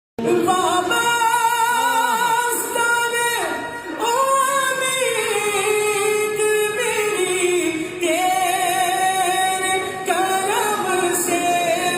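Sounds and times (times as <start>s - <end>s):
person reciting melodically: 0.2s - 11.9s.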